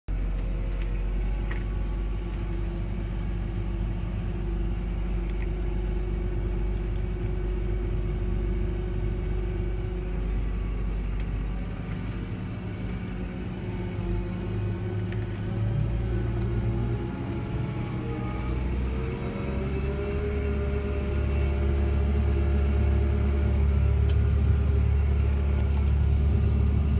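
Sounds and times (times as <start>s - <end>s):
tractor diesel engine drone: 0.1s - 26.9s
steady hum: 0.6s - 26.9s.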